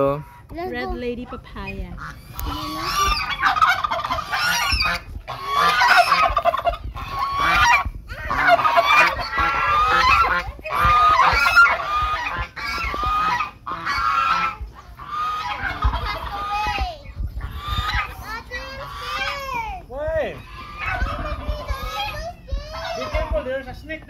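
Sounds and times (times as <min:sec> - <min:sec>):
flock of geese calling: 0:00.0 - 0:23.8.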